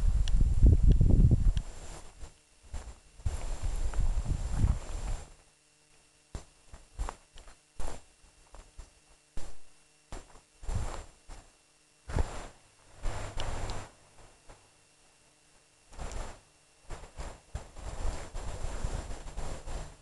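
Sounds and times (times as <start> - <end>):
faint steady hum: 0.0 - 20.0
footsteps through long grass: 0.6 - 14.7, 15.9 - 20.0.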